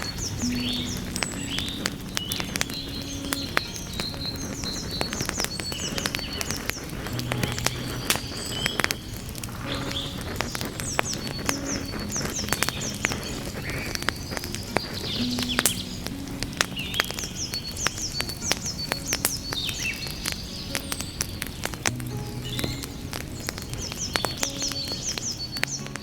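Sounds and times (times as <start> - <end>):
birds chirping: 0.0 - 26.0
wood fire crackling: 0.0 - 26.0.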